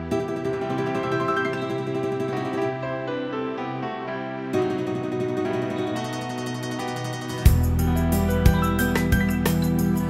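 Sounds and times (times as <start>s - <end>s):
electronic keyboard chords: 0.0s - 10.0s
guitar playing: 0.0s - 10.0s.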